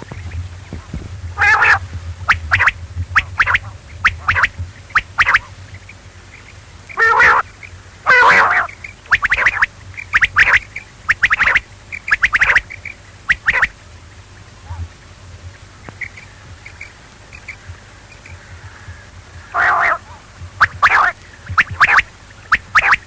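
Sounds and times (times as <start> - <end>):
quail calling: 1.4 - 13.8, 15.8 - 23.0.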